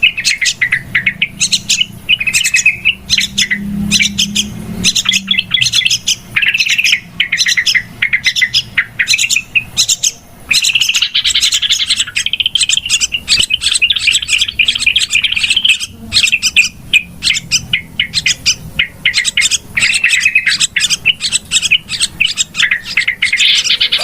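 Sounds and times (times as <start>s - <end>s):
bulbuls chattering: 0.0s - 24.0s.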